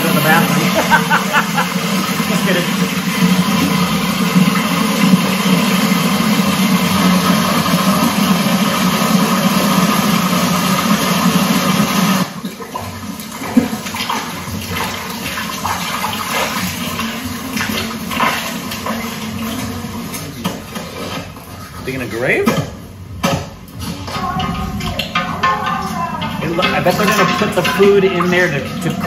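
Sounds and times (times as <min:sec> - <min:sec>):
water splashing into metal pot: 0:00.0 - 0:21.4, 0:22.3 - 0:29.0.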